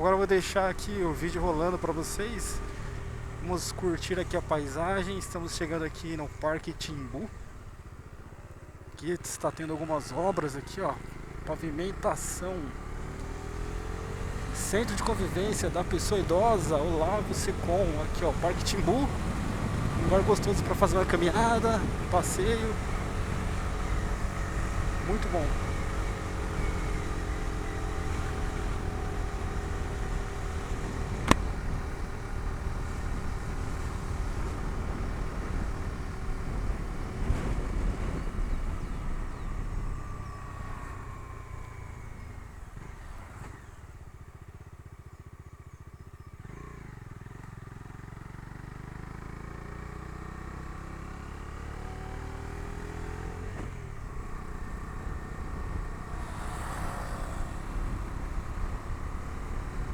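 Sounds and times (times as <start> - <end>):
motorcycle engine: 0.0 - 59.9
road and wind noise: 0.0 - 59.9.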